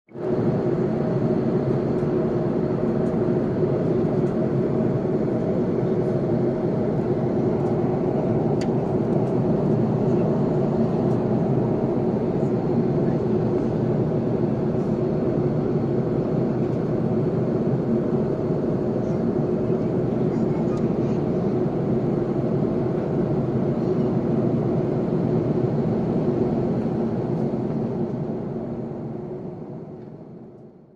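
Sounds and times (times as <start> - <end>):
airliner cabin engine drone: 0.1 - 30.9.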